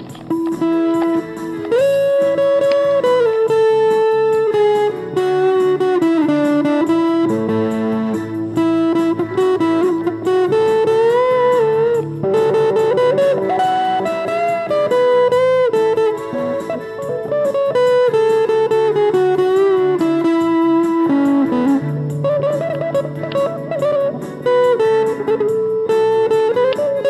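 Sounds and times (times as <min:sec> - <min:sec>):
lead guitar with bent notes: 0:00.0 - 0:27.0.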